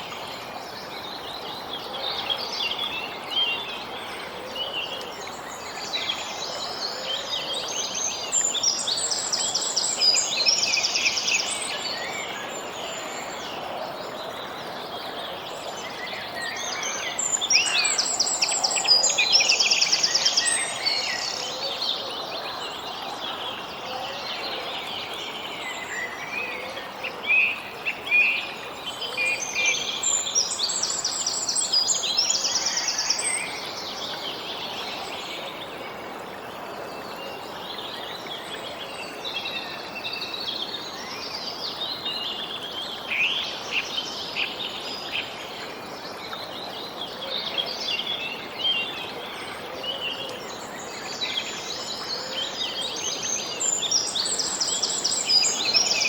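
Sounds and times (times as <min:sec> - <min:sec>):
outdoor background hiss: 0:00.0 - 0:56.0.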